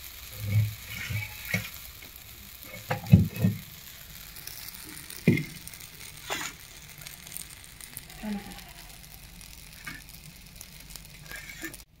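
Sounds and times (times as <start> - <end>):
faint sizzle from pan: 0.0 - 12.0.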